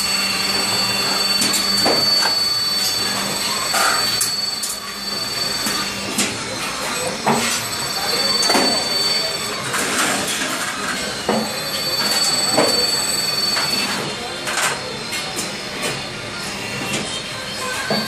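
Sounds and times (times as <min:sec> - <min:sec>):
high-pitched machine squeal: 0:00.0 - 0:18.0.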